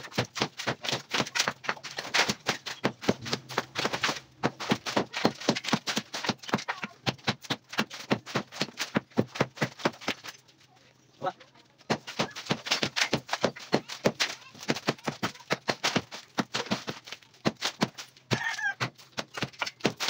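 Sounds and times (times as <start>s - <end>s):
hammer chipping concrete: 0.0s - 10.4s, 11.9s - 20.0s.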